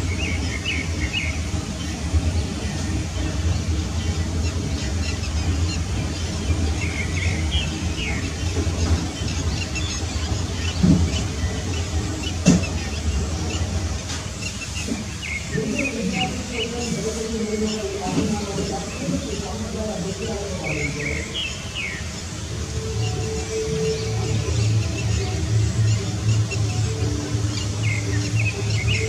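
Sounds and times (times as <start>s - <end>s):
ducks whistling calls: 0.0s - 29.0s
steady low rumble: 0.0s - 29.0s.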